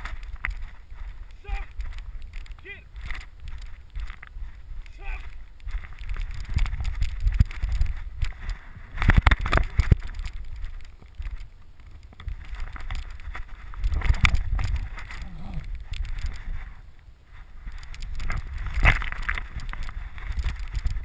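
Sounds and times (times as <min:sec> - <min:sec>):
wind noise: 0:00.0 - 0:21.0.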